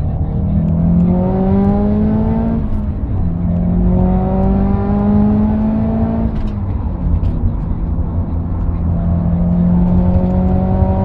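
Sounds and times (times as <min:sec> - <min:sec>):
car engine accelerating: 0:00.0 - 0:11.0
road and tyre noise: 0:00.0 - 0:11.0.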